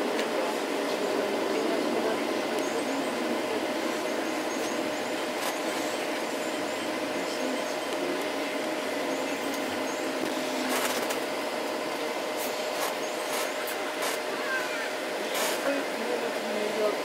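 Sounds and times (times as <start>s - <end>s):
vehicle road and engine noise: 0.1s - 16.7s.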